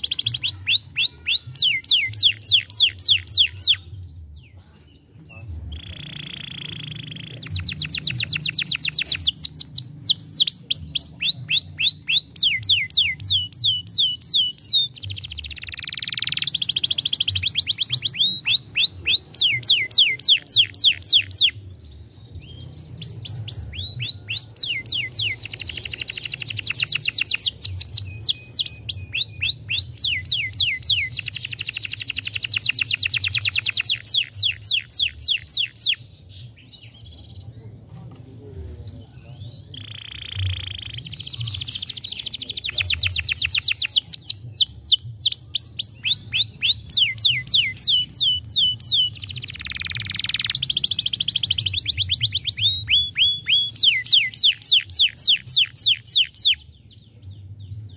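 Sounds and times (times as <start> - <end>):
canary singing trills: 0.0 - 37.8, 38.9 - 57.9.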